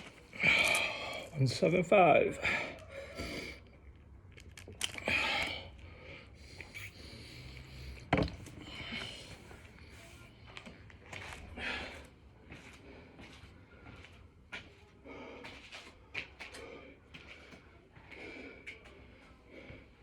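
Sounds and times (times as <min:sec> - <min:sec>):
man breathing heavily: 0:00.0 - 0:03.9, 0:04.9 - 0:20.0.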